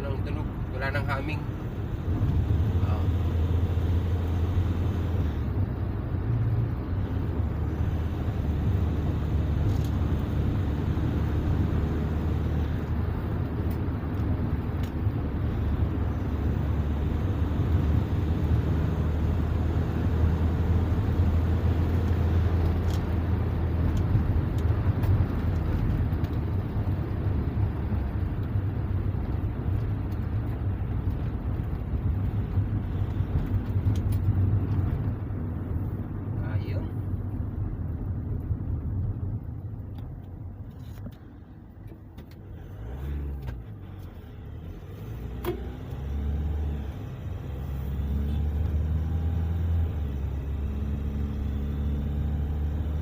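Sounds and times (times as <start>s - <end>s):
vehicle drivetrain and tyres rumble: 0.0s - 53.0s.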